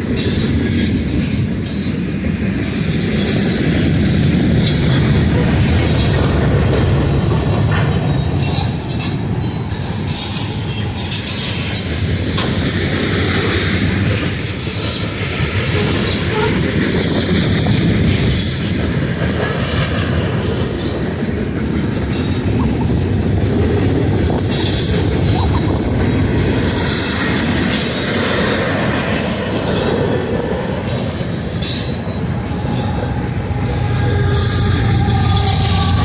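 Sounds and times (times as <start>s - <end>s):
train wheels rumbling on rail: 0.0s - 36.0s
wheels squealing: 2.6s - 19.8s, 20.7s - 36.0s.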